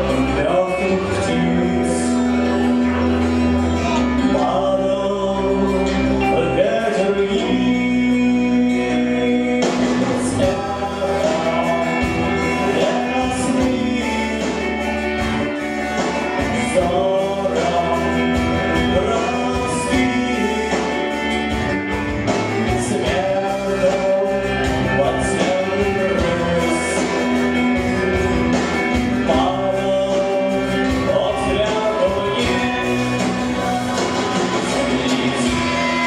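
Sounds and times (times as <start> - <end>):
band playing: 0.0 - 36.0
man singing: 0.0 - 36.0.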